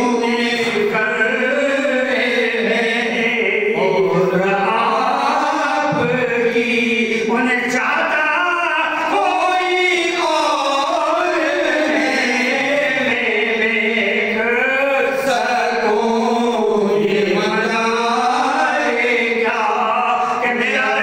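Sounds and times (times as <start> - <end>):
man singing devotional hymn: 0.0 - 21.0.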